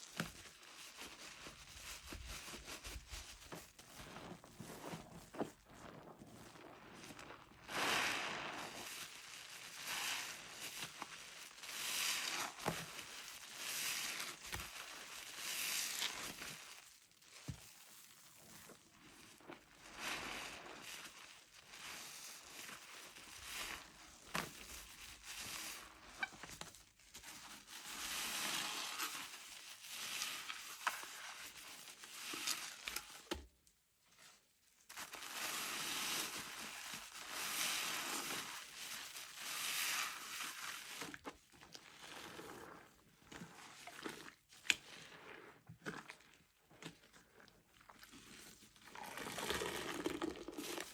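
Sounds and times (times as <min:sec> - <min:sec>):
soapy sponge squelching: 0:00.0 - 0:33.2, 0:34.2 - 0:50.9.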